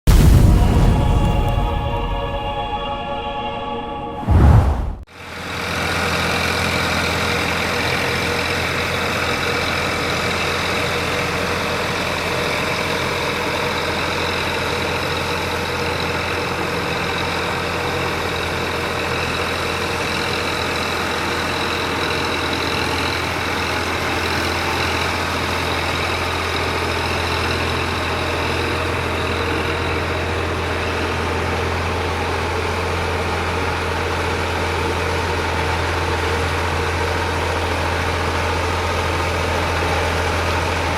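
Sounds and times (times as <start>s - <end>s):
tractor diesel engine running: 5.0s - 40.9s.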